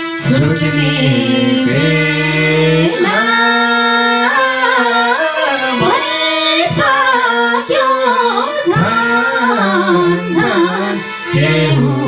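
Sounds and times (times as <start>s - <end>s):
instrumental accompaniment: 0.0s - 12.0s
person singing long notes: 0.0s - 12.0s.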